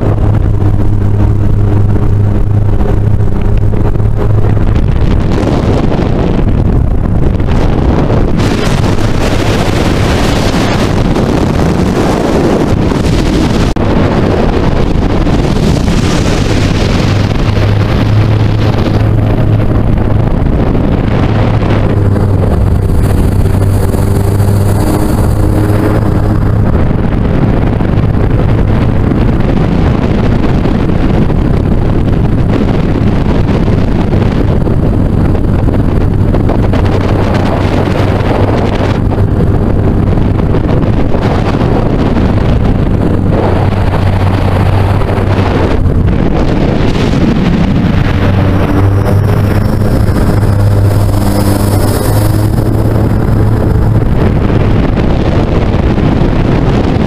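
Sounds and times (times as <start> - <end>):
boat engine drone: 0.0 - 57.0
wind buffeting microphone: 0.0 - 57.0.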